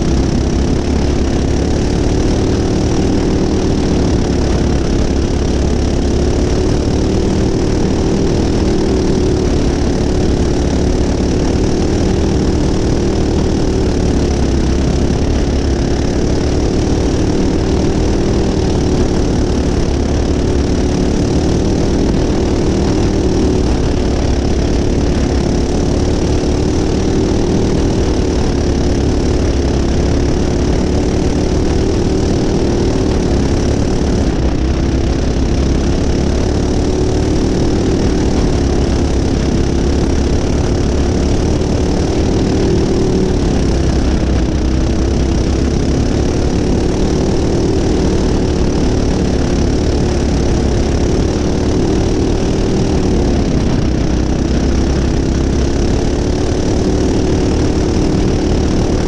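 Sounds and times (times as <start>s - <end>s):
go-kart engine running hard: 0.0s - 59.0s.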